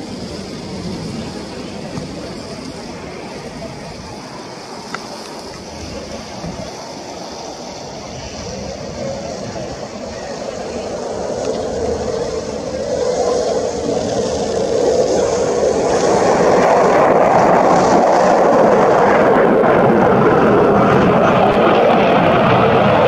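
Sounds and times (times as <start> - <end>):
fighter jets rushing past: 0.0 - 23.0.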